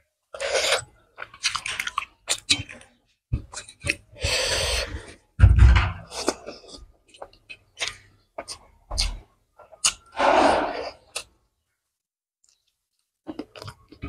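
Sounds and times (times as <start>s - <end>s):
person chewing food: 0.3s - 5.3s, 6.0s - 11.4s, 12.4s - 14.0s.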